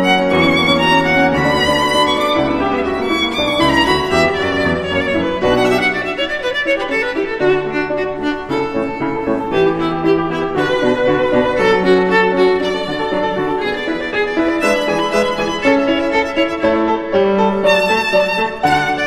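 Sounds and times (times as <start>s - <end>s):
violin melody: 0.0s - 19.0s.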